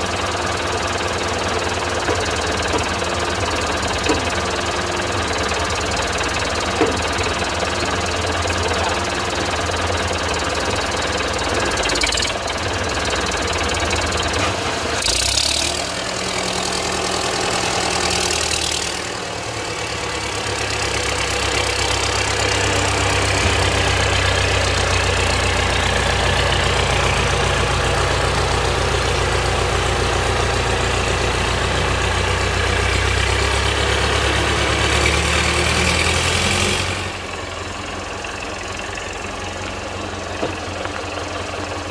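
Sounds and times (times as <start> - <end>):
small gasoline engine running: 0.0 - 41.9.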